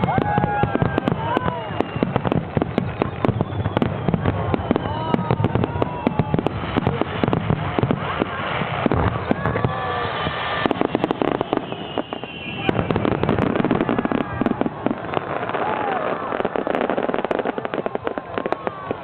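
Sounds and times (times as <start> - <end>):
fireworks bursts and crackles: 0.0 - 19.0
fireworks whistling: 0.0 - 19.0.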